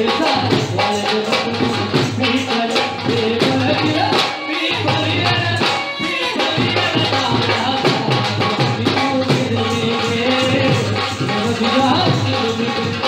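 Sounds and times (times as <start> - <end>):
folk music with drums and shaker: 0.0 - 13.0.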